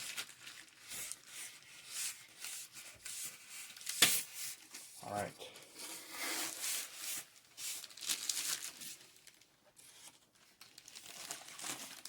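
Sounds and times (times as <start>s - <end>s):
packaging rustling and crinkling: 0.0s - 4.9s, 5.8s - 12.0s.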